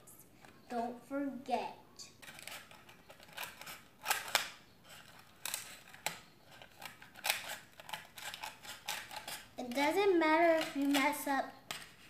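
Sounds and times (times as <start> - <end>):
scissors cutting plastic: 2.2 - 11.9.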